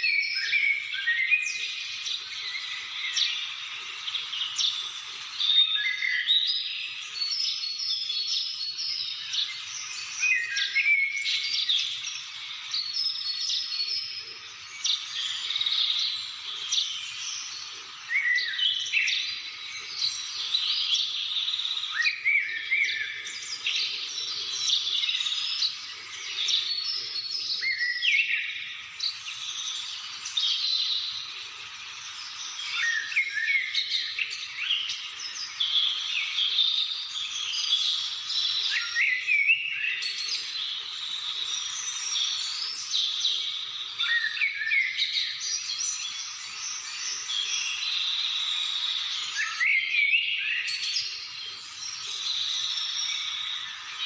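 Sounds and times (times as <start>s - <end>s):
birds chirping and whistling: 0.0s - 54.0s.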